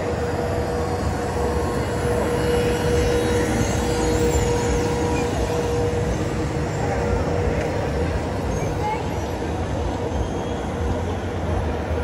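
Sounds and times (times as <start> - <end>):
low mechanical drone: 0.0 - 12.0
mid-pitched hum: 0.0 - 12.0.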